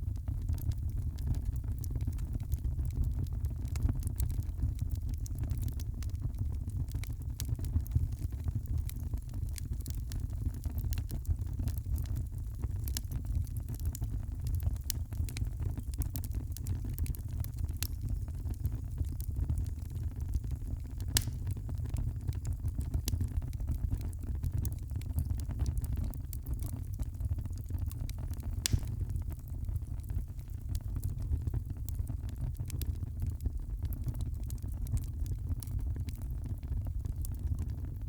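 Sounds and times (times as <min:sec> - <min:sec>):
fire crackling: 0:00.0 - 0:38.0
fire flames rumbling: 0:00.0 - 0:38.0
wood fire pops: 0:00.1 - 0:33.2.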